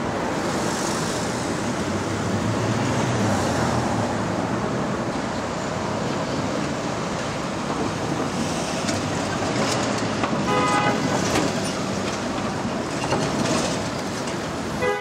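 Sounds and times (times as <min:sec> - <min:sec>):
trucks driving past: 0:00.0 - 0:14.8.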